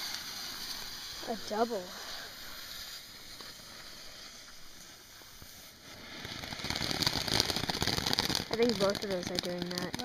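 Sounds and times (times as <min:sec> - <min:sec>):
firework fountain crackling: 0:00.0 - 0:10.0.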